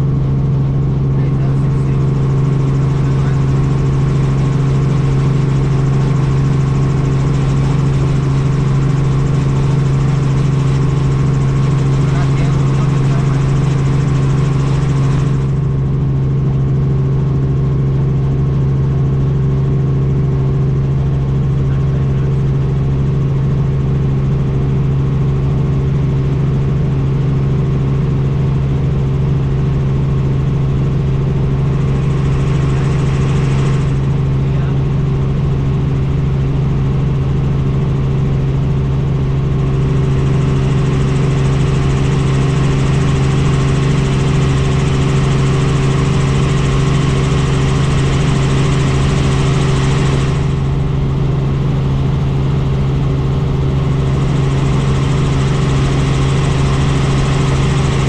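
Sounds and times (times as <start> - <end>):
helicopter drone: 0.0 - 58.0.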